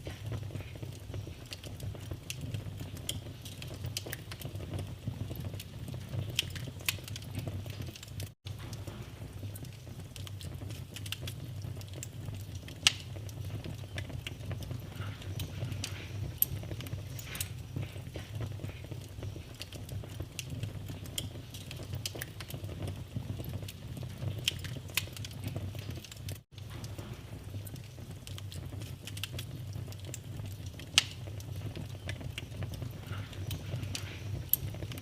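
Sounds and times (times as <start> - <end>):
fire pops and snaps: 0.0 - 35.0
low rumble of flames: 0.0 - 35.0
wood fire crackling: 0.0 - 35.0.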